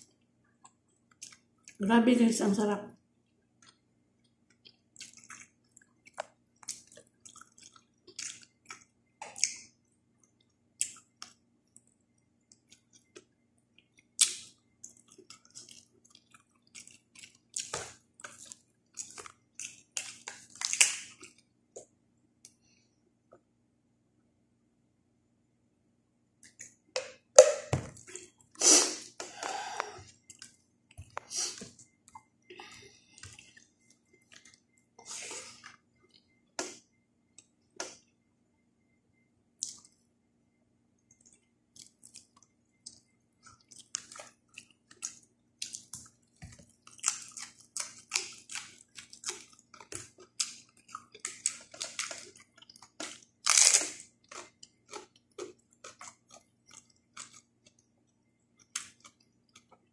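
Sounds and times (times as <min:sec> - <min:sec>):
person chewing food: 0:00.0 - 0:01.8, 0:03.2 - 0:23.4, 0:26.4 - 0:38.0, 0:39.6 - 0:40.0, 0:41.1 - 0:59.9.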